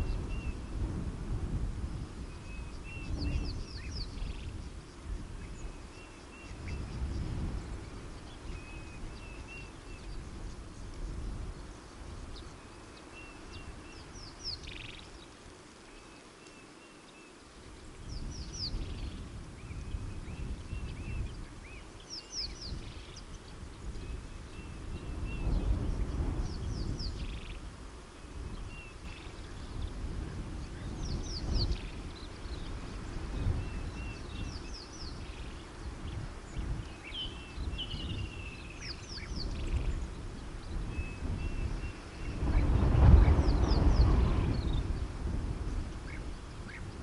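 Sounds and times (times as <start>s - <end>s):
birds chirping: 1.9s - 47.0s.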